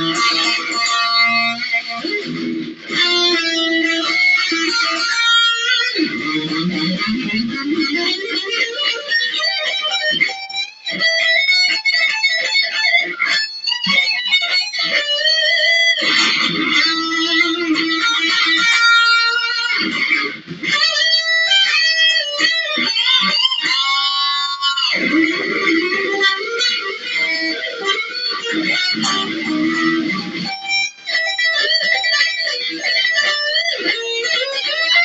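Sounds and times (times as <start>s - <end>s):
electric guitar shredding: 0.0s - 35.0s.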